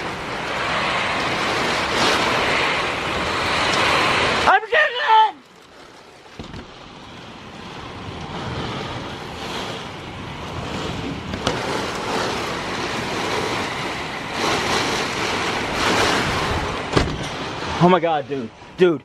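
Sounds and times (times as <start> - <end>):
wind gusts buffeting microphone: 0.0 - 19.0.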